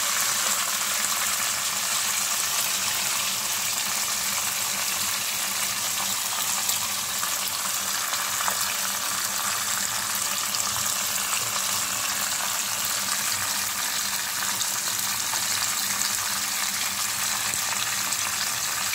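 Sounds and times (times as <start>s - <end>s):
hot oil sizzling: 0.0s - 18.9s.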